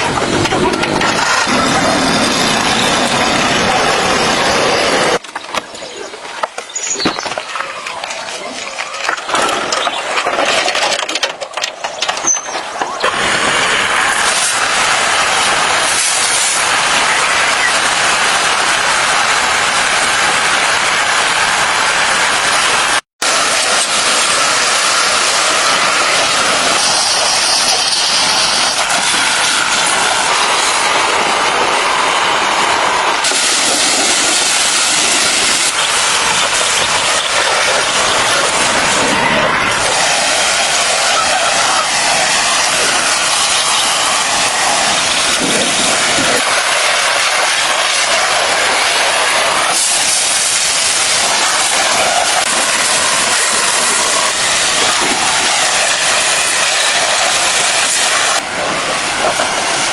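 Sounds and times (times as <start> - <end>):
loud hissing rush: 0.0 - 10.8, 11.5 - 59.9.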